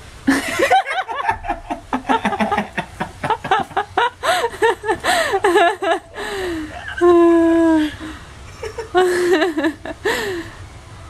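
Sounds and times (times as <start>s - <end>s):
people laughing hard: 0.3s - 10.4s.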